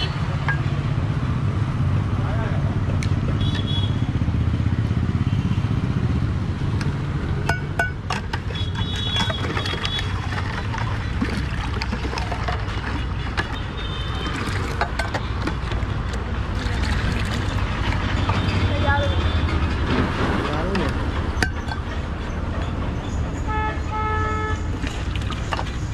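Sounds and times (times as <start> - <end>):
street traffic rumble: 0.0 - 25.9.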